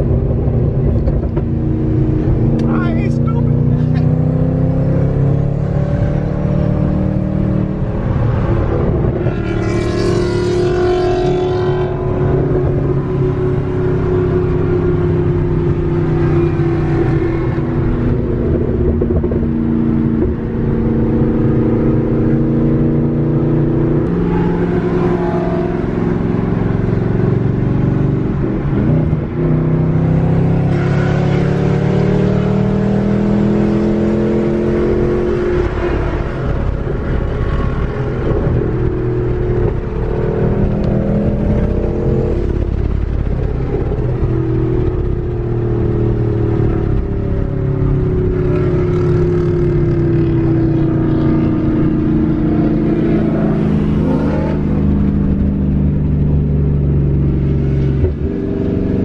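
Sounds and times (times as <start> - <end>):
car engine droning: 0.0 - 59.0
tyre and road noise: 0.0 - 59.0.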